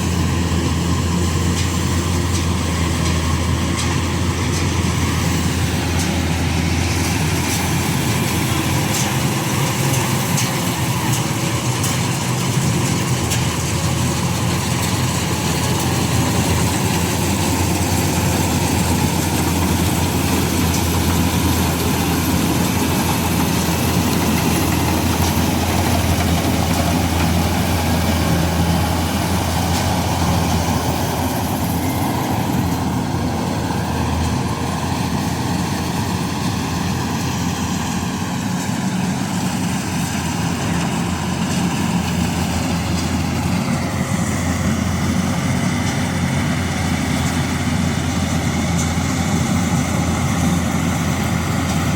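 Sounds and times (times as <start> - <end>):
combine harvester engine droning: 0.0 - 51.9.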